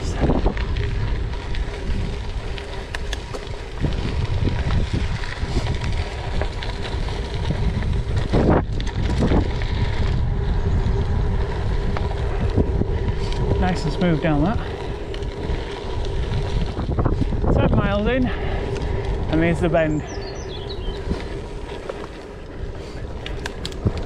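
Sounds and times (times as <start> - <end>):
tyres crunching on gravel: 0.0 - 24.0
wind buffeting microphone: 0.0 - 24.0.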